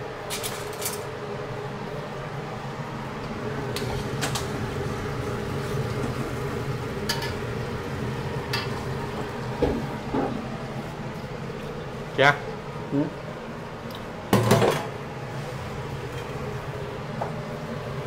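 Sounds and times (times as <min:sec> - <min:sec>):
broth boiling in a wok: 0:00.0 - 0:18.0.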